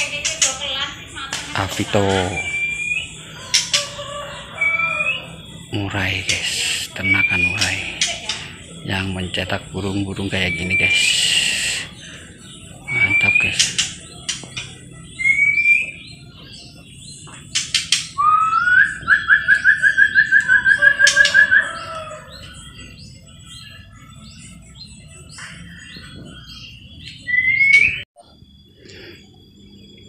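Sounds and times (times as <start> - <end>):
bird song whistles and trills: 0.0 - 30.0
high chirping of other birds: 0.0 - 30.0.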